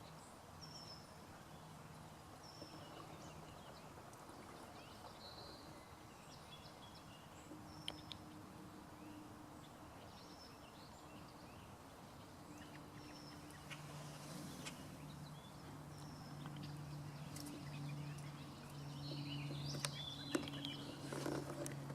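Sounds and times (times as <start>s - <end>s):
low steady hum: 0.0s - 21.9s
small birds chirping: 0.0s - 21.9s.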